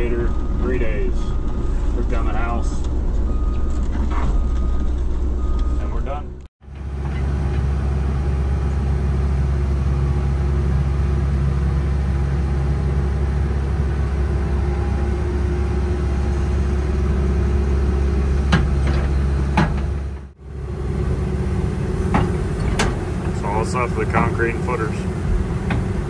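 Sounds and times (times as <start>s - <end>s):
excavator diesel engine drone: 0.0s - 26.0s.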